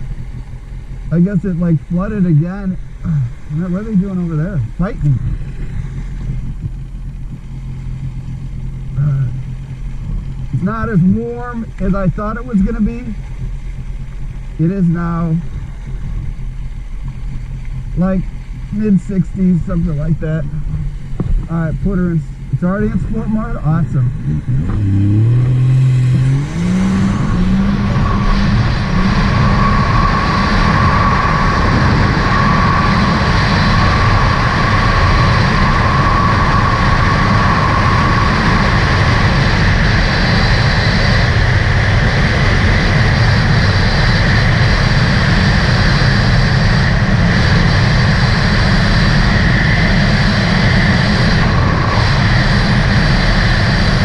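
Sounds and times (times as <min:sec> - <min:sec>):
personal watercraft engine revving: 0:00.0 - 0:54.0.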